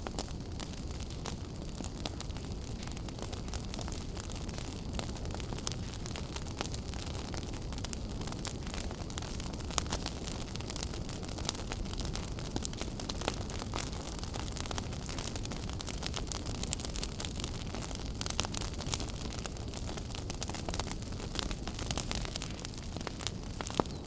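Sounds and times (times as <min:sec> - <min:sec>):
fire crackling and popping: 0:00.0 - 0:24.0
fire rumbling and hissing: 0:00.0 - 0:24.0.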